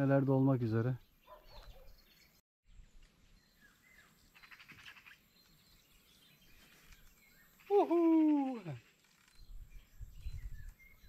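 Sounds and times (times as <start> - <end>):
faint bird chirps: 1.0 - 11.0.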